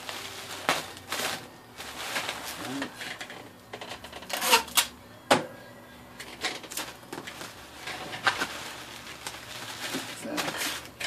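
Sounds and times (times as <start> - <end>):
bubble wrap crinkling: 0.0 - 4.9, 6.2 - 11.0
sharp crackles: 0.0 - 4.9, 6.2 - 11.0.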